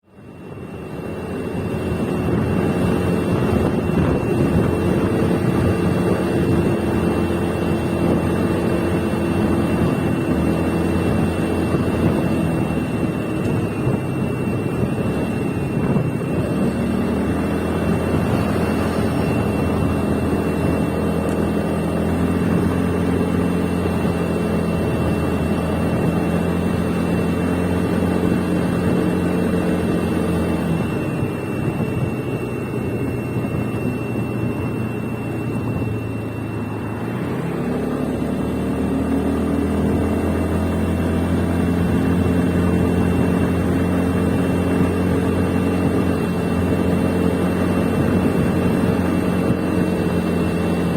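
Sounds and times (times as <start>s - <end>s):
scooter engine running: 0.1s - 50.9s.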